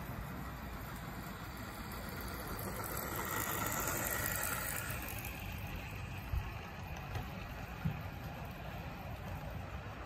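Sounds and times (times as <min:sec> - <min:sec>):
model train whirring on track: 0:00.0 - 0:10.0.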